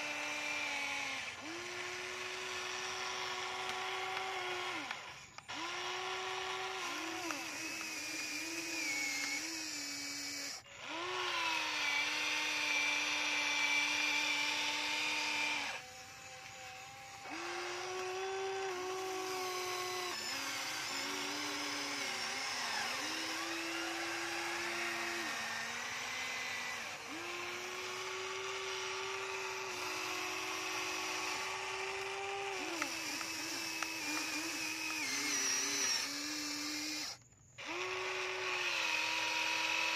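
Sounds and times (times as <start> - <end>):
toy excavator motors whining: 0.0 - 39.9.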